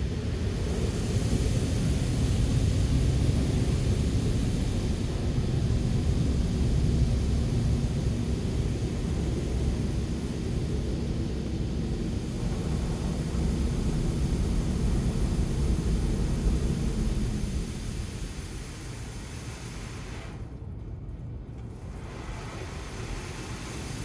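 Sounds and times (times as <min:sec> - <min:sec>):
low rumble of vehicle engines: 0:00.0 - 0:24.0
steady hum: 0:00.0 - 0:24.0.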